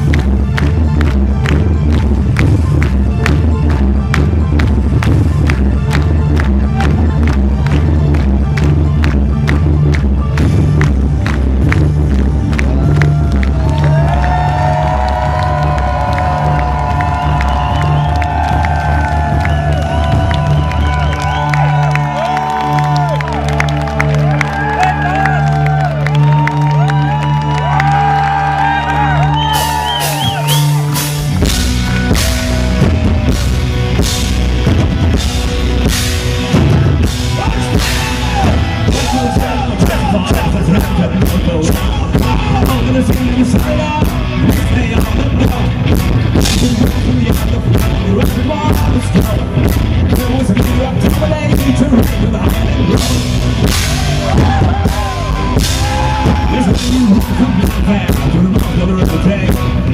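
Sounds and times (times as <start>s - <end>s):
drum kit: 0.0s - 26.4s, 27.8s - 59.9s
bass: 0.0s - 59.9s.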